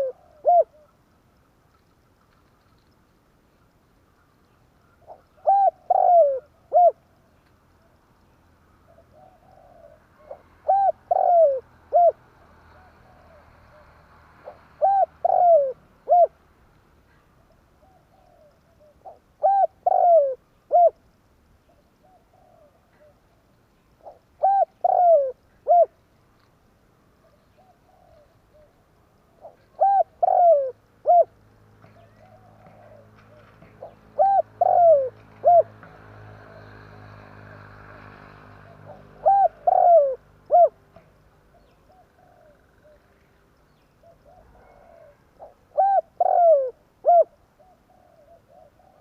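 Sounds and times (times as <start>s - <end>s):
dove cooing: 0.0s - 1.0s, 4.9s - 8.0s, 8.8s - 16.4s, 17.4s - 21.0s, 21.7s - 23.4s, 24.0s - 26.0s, 27.2s - 43.2s, 44.0s - 49.0s.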